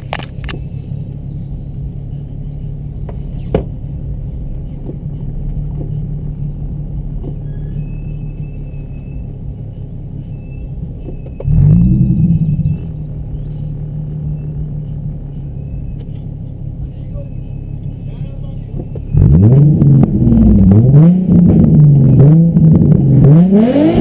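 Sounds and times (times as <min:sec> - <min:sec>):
car engine revving: 0:00.0 - 0:24.0
car engines idling: 0:00.0 - 0:24.0.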